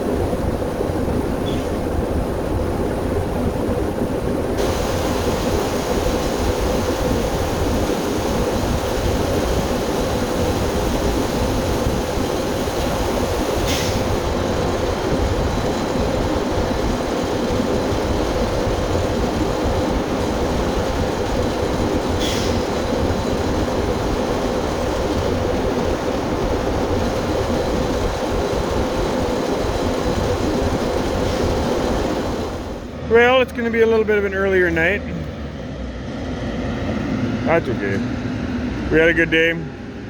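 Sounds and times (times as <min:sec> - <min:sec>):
farm machinery droning: 0:00.0 - 0:40.0.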